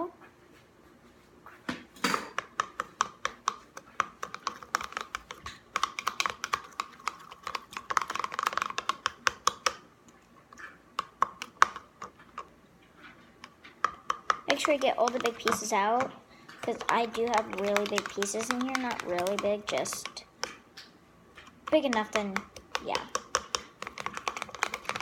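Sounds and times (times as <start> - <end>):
pencil tapping against container: 2.1 - 9.8, 11.0 - 12.5, 13.4 - 20.6, 21.4 - 25.0.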